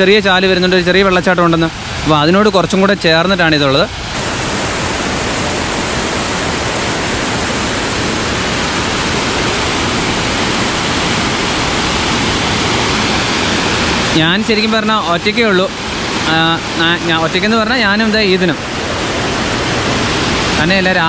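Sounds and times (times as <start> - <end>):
small waterfall rushing: 0.0 - 21.0.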